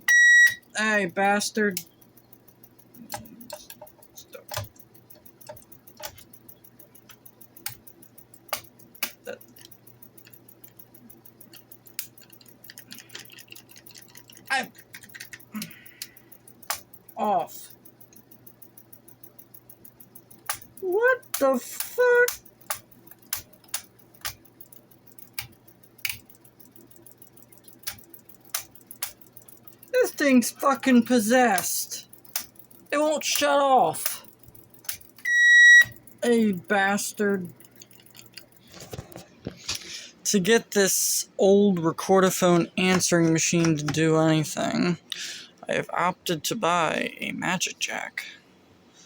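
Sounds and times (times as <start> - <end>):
mechanism clicks: 0.0 - 45.2
machine mechanism hum: 0.0 - 49.0
rapid faint ticking: 0.6 - 45.8.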